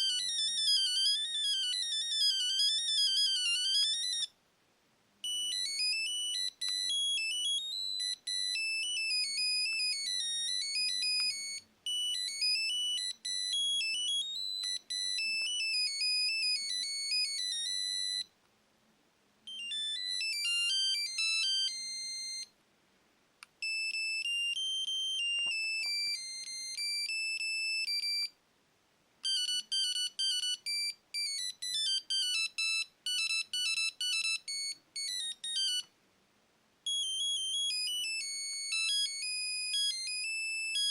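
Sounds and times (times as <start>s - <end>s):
monophonic phone ringtones: 0.0s - 4.3s, 5.2s - 18.3s, 19.5s - 22.5s, 23.6s - 28.3s, 29.2s - 35.9s, 36.9s - 40.9s.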